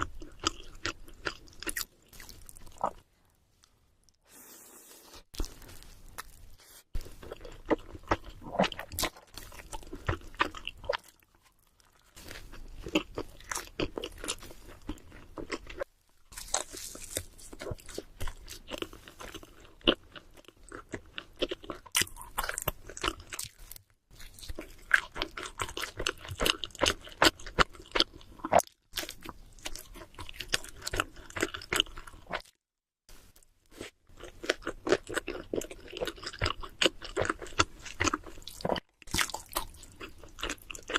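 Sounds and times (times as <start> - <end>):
chewing and crunching pizza: 0.0 - 3.0, 5.1 - 40.9.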